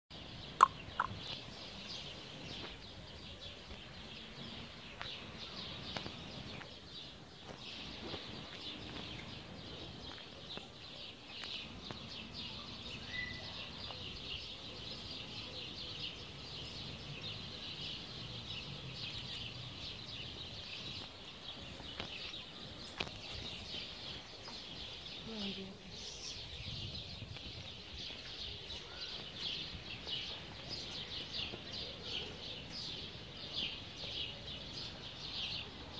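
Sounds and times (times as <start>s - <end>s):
small birds chirping: 0.1s - 35.9s.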